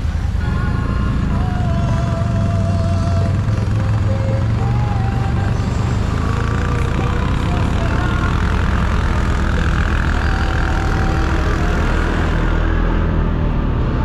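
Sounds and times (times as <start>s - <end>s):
quad engine running: 0.0s - 14.0s.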